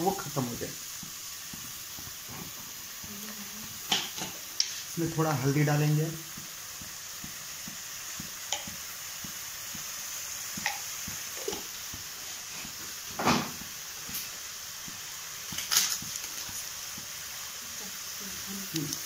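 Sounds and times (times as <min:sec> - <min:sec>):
gravy sizzling in a pan: 0:00.0 - 0:19.0.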